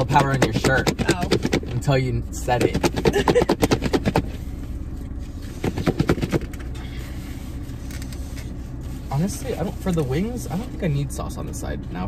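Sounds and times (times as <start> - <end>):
low hum inside a car: 0.0 - 12.0.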